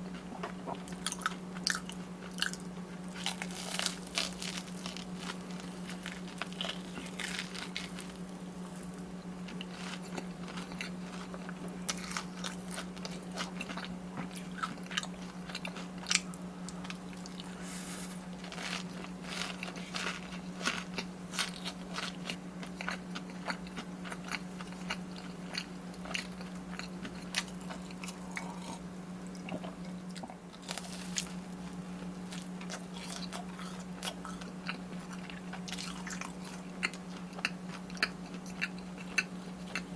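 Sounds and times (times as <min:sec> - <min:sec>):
crispy crunching and chewing: 0:00.0 - 0:39.9
steady low hum: 0:00.0 - 0:39.9.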